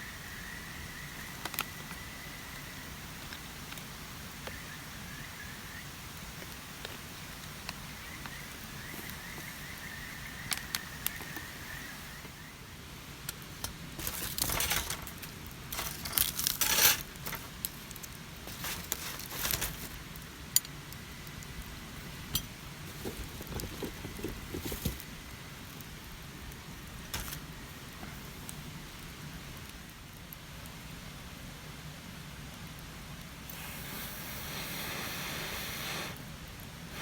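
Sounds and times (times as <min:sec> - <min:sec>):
mountain stream murmur: 0:00.0 - 0:29.9.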